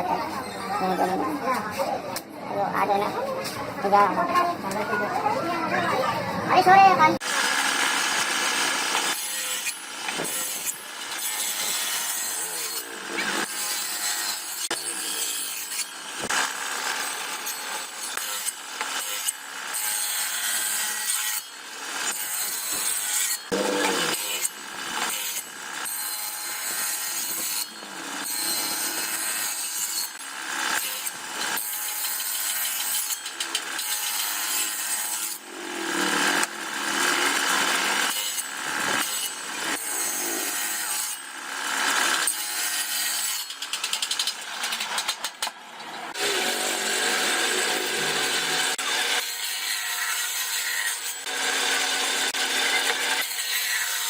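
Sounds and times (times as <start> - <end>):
saw rasping on wood: 7.2 - 45.1, 46.1 - 54.0.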